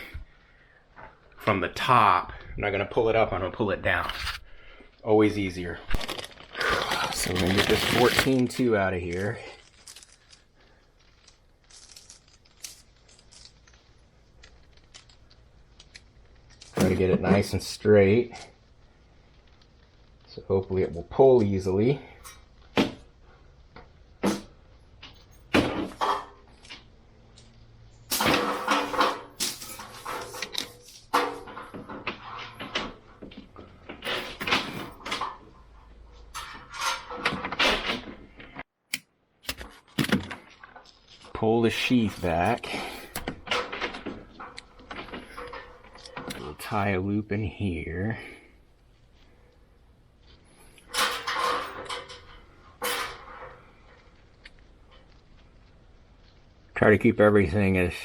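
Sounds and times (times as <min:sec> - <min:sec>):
electrical cable rustling and clicking: 0:00.0 - 0:47.0, 0:48.5 - 0:56.8.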